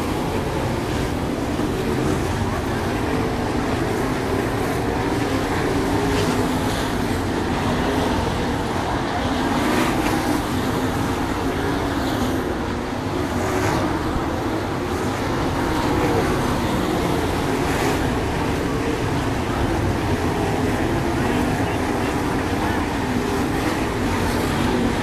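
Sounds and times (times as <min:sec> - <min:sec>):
race car engines passing: 0:00.0 - 0:25.0.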